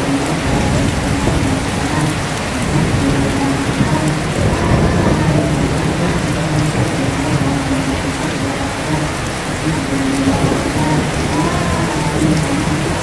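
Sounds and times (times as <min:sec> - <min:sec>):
heavy rain: 0:00.0 - 0:13.0
person chanting: 0:00.0 - 0:13.0
thunder rumbling: 0:00.0 - 0:13.0.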